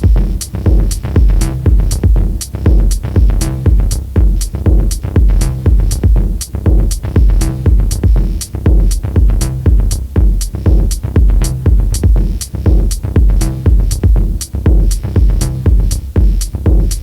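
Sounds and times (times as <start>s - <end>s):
electronic drum-machine music: 0.0s - 17.0s.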